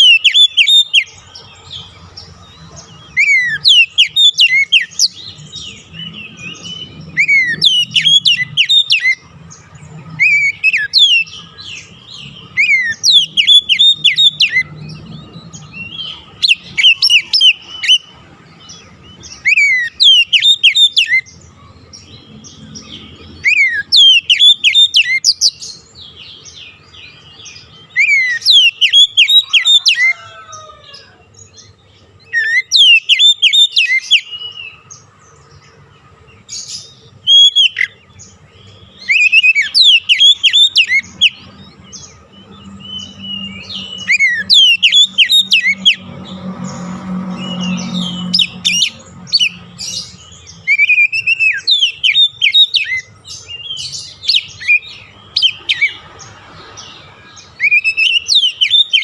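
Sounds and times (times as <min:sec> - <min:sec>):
songbird whistles and chirps: 0:00.0 - 0:21.4, 0:22.0 - 0:35.1, 0:36.4 - 0:59.0.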